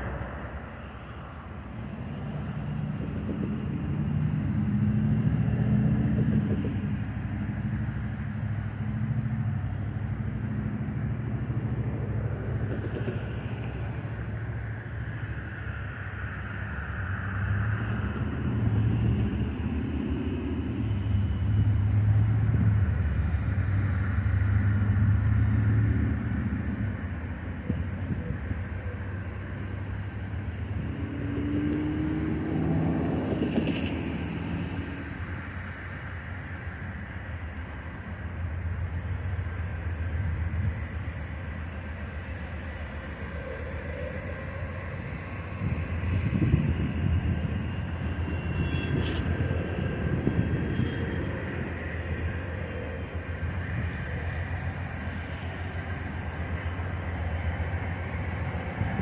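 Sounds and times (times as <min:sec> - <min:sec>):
diesel locomotive rumbling: 0:00.0 - 0:59.0.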